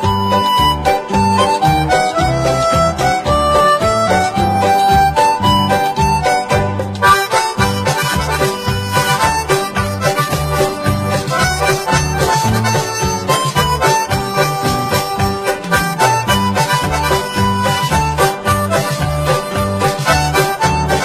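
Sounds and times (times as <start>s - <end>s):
music with steady beat: 0.0s - 21.0s.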